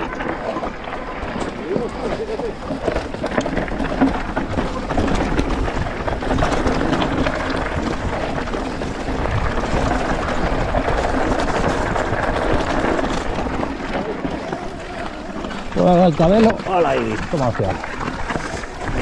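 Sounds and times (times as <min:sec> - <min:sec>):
bike rolling on dirt track: 0:00.0 - 0:19.0.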